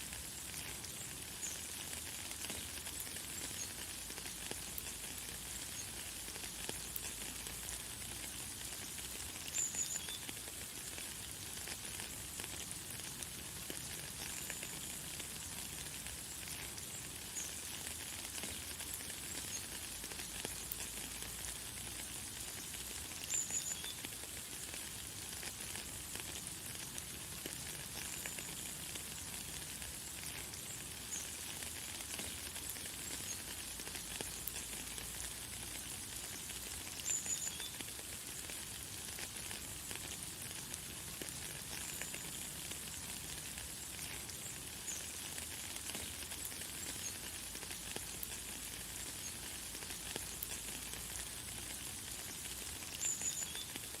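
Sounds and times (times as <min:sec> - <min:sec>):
light rain hissing: 0:00.0 - 0:54.0.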